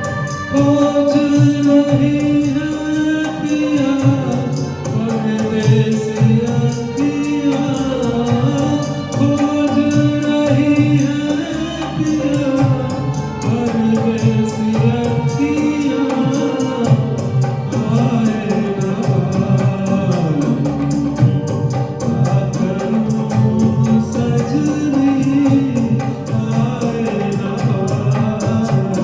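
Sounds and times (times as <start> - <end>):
accompaniment with light percussion: 0.0 - 29.0
person singing slow song: 0.0 - 29.0.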